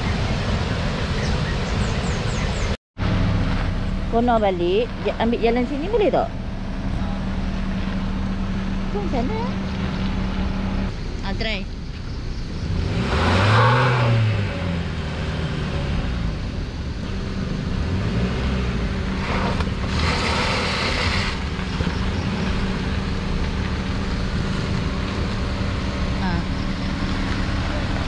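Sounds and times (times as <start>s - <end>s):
car engine revving at low speed: 0.0s - 11.3s, 12.1s - 28.0s.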